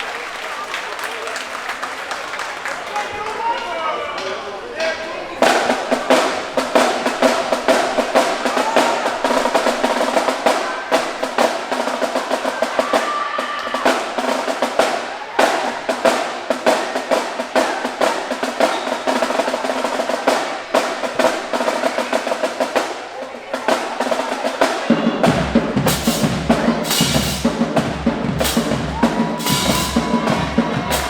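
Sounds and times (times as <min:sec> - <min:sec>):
drumline snare cadence: 0:00.0 - 0:31.0.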